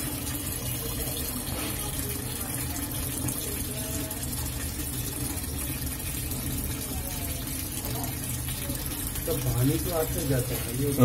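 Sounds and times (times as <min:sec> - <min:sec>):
water running into washing machine: 0:00.0 - 0:11.0.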